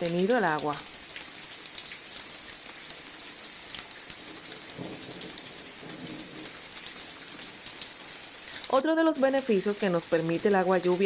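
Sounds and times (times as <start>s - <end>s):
rain falling on leaves: 0.0s - 11.0s.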